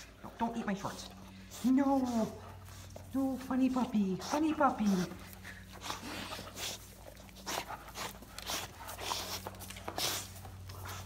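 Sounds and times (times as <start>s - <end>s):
puppy noisy breathing and mouthing: 0.0s - 11.0s.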